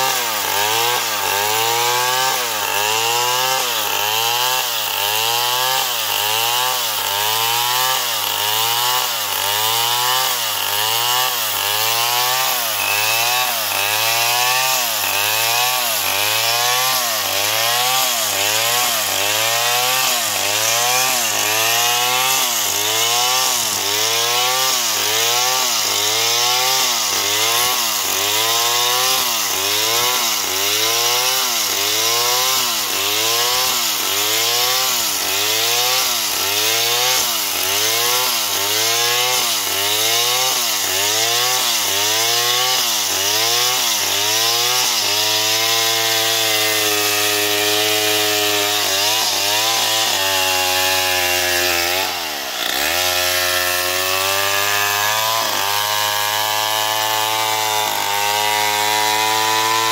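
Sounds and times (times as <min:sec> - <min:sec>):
chainsaw cutting through log: 0:00.0 - 0:59.9.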